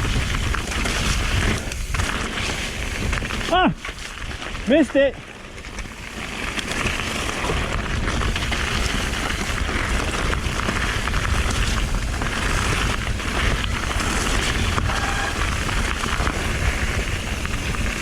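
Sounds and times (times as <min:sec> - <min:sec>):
bike clicks and rattles: 0:00.0 - 0:18.0
wind and tyres rumbling: 0:00.0 - 0:18.0.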